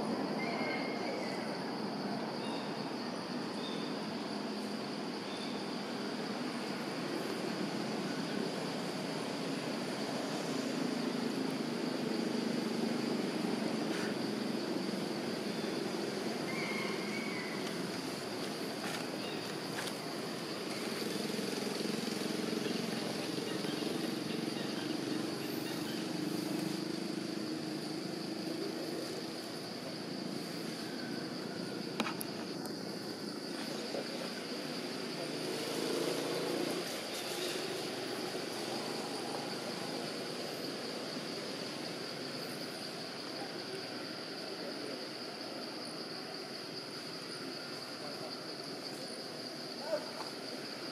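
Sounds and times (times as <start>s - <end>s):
high-pitched insect drone: 0.0s - 50.9s
even hiss: 1.1s - 50.9s.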